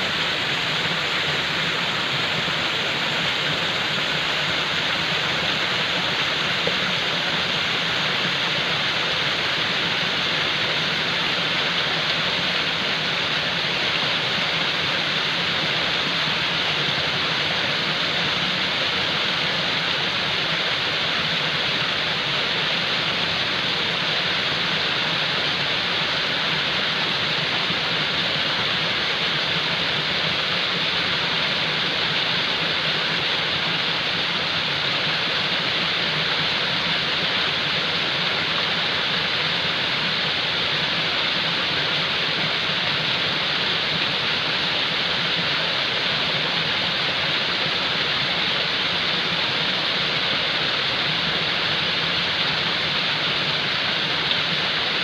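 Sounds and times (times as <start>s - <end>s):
rushing falling water: 0.0s - 55.0s.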